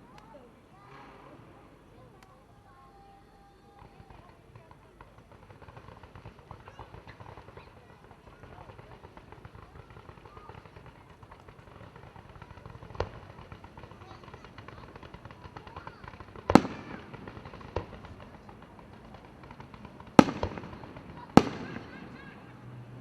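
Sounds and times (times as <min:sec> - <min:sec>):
crowd murmuring: 0:00.0 - 0:23.0
fireworks booms and pops: 0:03.7 - 0:22.5.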